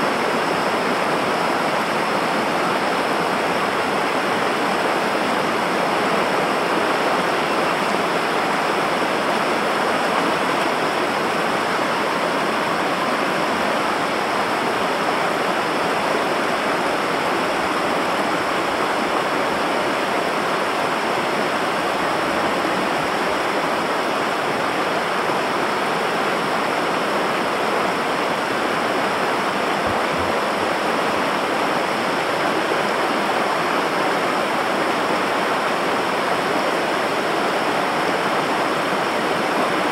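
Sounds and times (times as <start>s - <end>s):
river water roaring over rapids: 0.0s - 39.9s.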